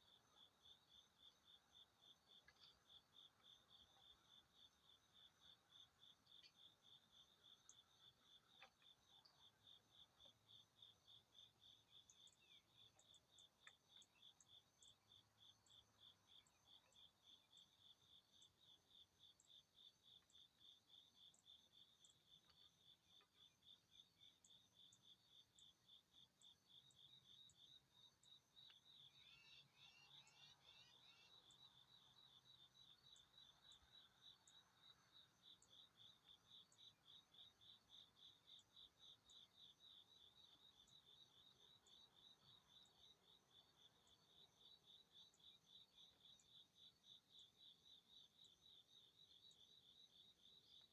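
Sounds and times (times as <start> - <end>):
cricket chirping: 0.0 - 50.9.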